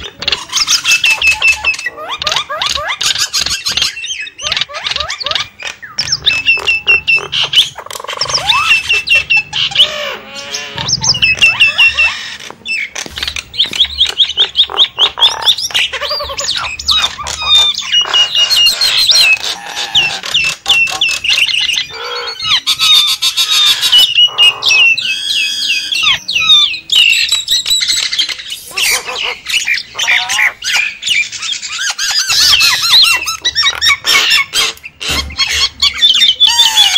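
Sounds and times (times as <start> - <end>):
mynas squawking and chattering: 0.0 - 36.9.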